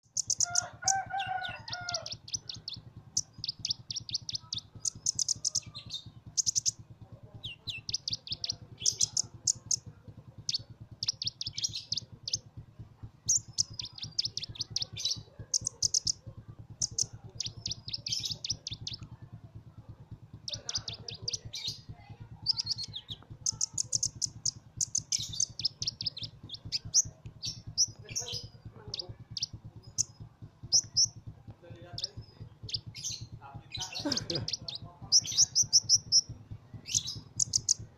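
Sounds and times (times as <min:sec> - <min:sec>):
sunbird twittering trills: 0:00.0 - 0:12.5, 0:13.2 - 0:16.2, 0:16.8 - 0:19.1, 0:20.4 - 0:37.9
steady low hum: 0:00.0 - 0:37.9.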